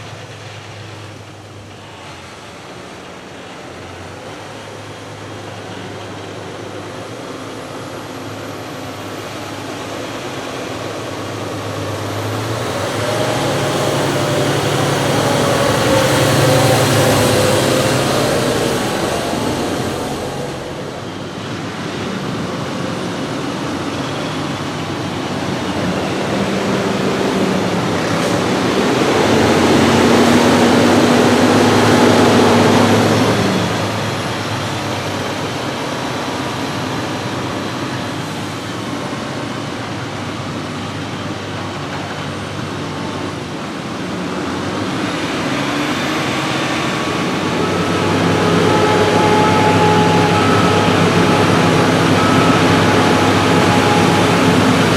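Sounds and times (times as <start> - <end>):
heavy farm machinery running: 0.0 - 54.9.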